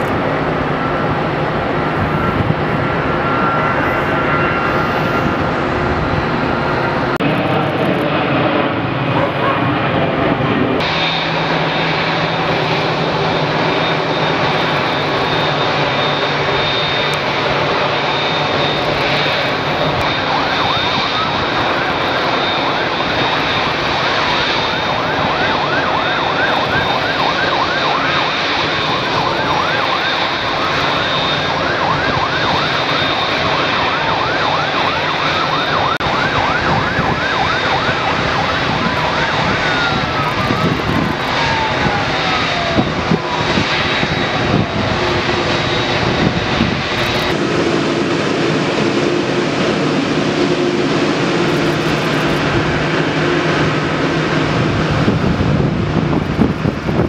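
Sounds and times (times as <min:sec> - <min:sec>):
jet engines running: 0:00.0 - 0:57.0
warbling siren: 0:00.0 - 0:57.0.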